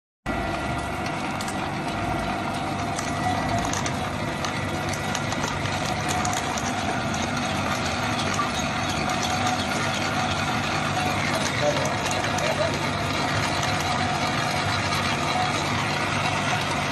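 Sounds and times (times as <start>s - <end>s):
pellet mill humming: 0.3s - 16.9s
pellets clattering on metal chute: 2.9s - 16.9s.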